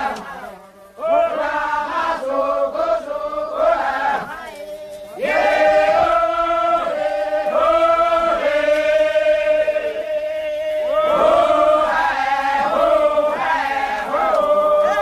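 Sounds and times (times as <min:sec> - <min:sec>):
crowd chanting in unison: 0:00.0 - 0:15.0.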